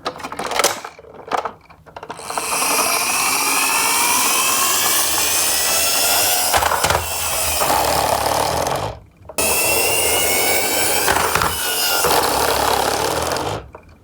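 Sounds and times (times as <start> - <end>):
toy cars rolling rattle: 0.0 - 14.0.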